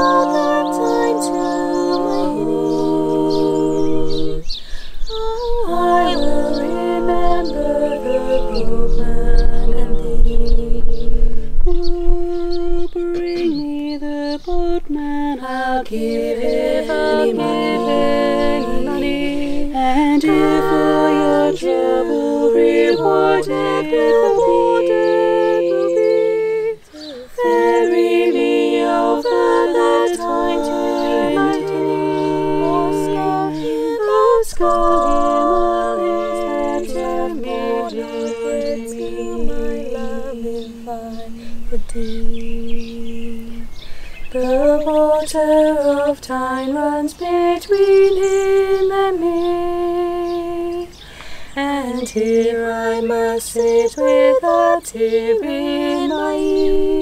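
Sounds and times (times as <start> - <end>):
women singing a cappella harmony: 0.0 - 57.0.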